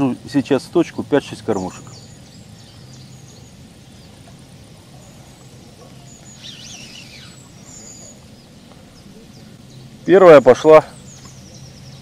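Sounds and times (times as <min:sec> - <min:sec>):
small birds chirping faintly: 0:00.0 - 0:12.0
bird twittering: 0:01.5 - 0:12.0.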